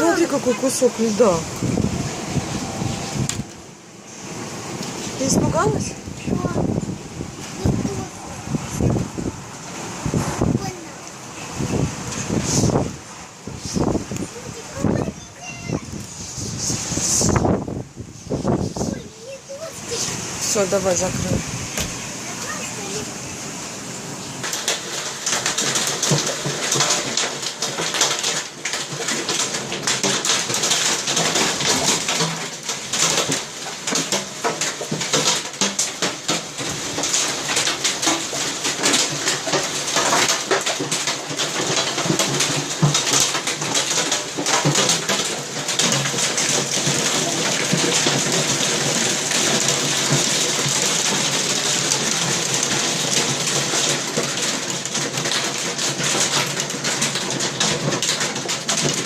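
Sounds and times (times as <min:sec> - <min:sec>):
heavy rain hiss: 0:00.0 - 0:59.0
raindrops tapping: 0:00.0 - 0:59.0.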